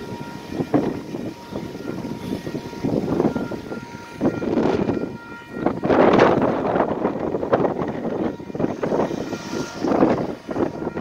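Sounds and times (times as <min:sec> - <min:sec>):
traffic passing: 0:00.0 - 0:11.0
wind buffeting microphone: 0:00.0 - 0:11.0.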